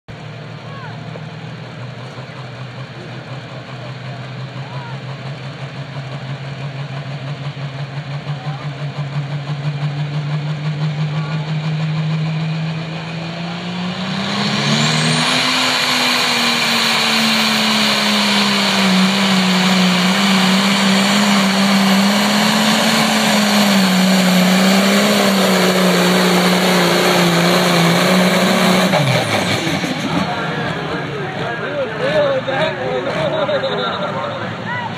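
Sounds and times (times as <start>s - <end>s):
diesel tractor engine: 0.1s - 34.9s.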